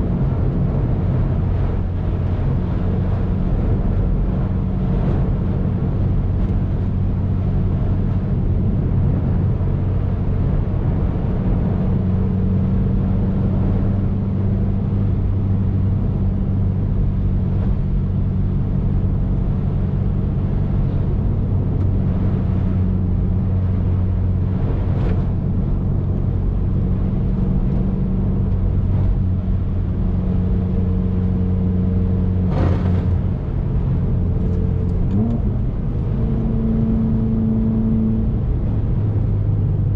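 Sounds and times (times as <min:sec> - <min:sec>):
car engine cruising: 0:00.0 - 0:39.9
road and tyre noise: 0:00.0 - 0:39.9.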